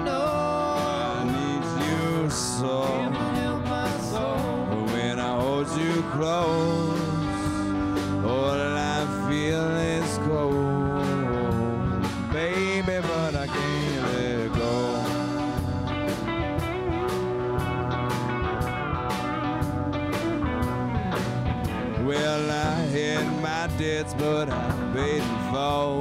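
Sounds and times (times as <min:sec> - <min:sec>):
bowed electric upright strings: 0:00.0 - 0:26.0
live rock band playing: 0:00.0 - 0:26.0.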